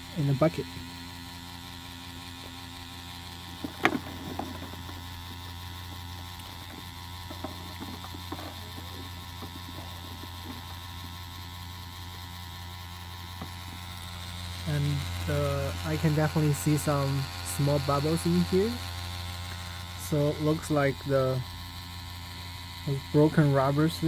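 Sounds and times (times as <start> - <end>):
electric pump humming: 0.0 - 24.0
small rattles: 2.3 - 24.0.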